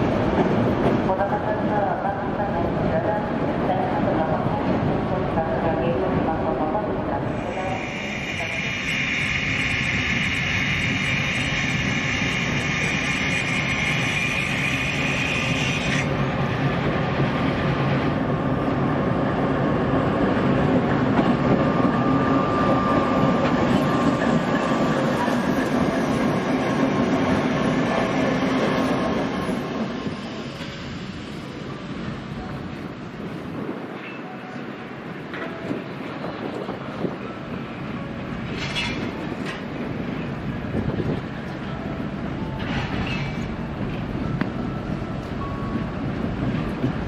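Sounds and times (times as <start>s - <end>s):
wheel and rail noise: 7.2s - 47.0s.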